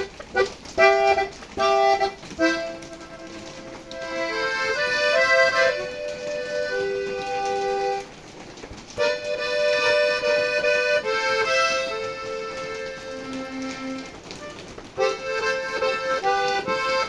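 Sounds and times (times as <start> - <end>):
accordion playing chords: 0.0 - 8.2, 9.0 - 17.0.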